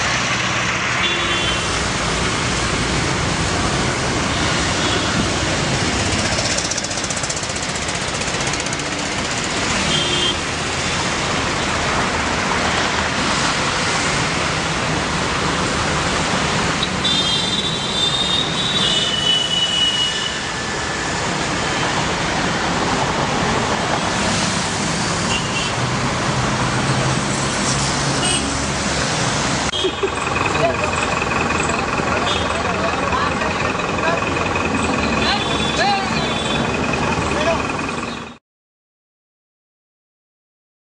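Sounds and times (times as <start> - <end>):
road traffic noise: 0.0 - 38.4.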